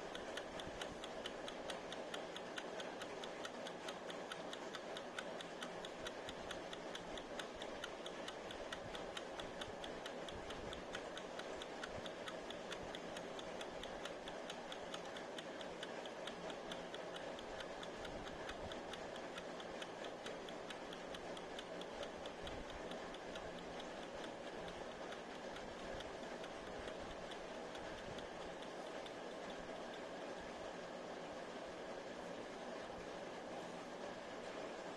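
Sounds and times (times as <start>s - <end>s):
kitchen timer ticking: 0.0s - 30.2s.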